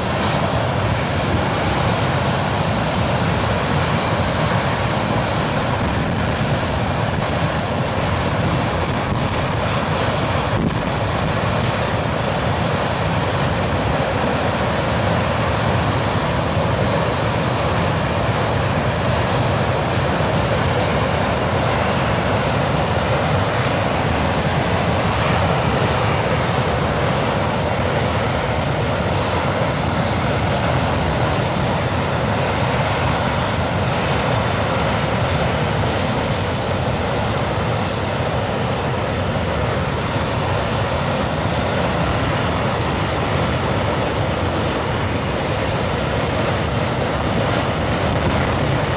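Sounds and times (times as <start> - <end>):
jet engine running steadily: 0.0 - 48.9.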